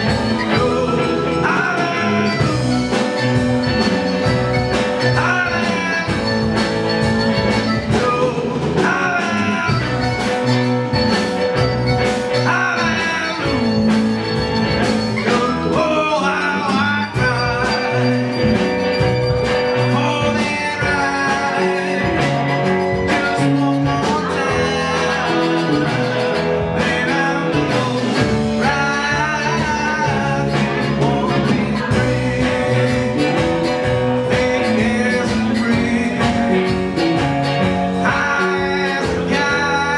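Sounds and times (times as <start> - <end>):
live folk-rock band playing: 0.0 - 39.9.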